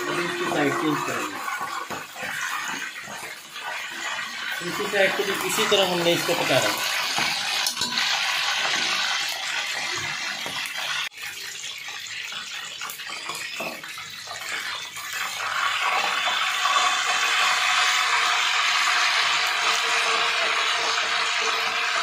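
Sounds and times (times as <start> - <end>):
oil sizzling and bubbling: 0.0 - 22.0.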